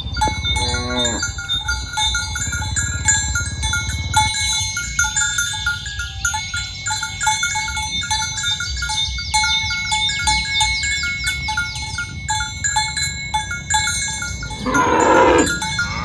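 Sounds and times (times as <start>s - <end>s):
cattle bells clanking: 0.0s - 16.0s.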